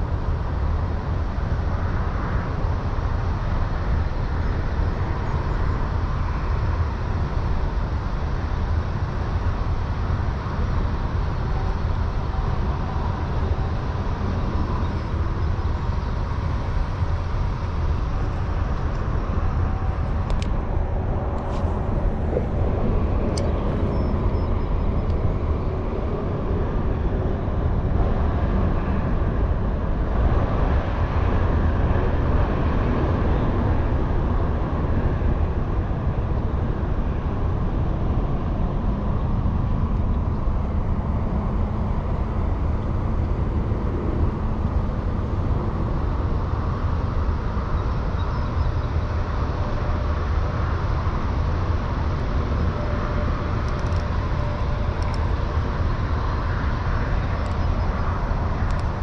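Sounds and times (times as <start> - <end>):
outdoor background rumble: 0.0 - 59.0.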